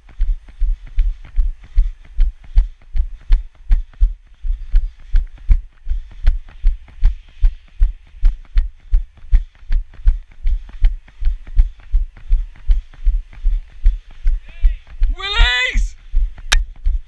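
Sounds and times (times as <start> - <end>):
running footsteps on dirt: 0.0 - 17.0.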